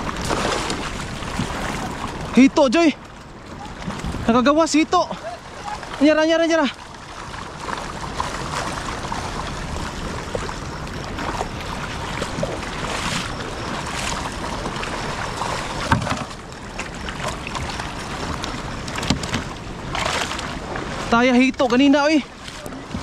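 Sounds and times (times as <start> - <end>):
splashes from wading: 0.0 - 23.0
stream water rushing over rocks: 0.0 - 23.0.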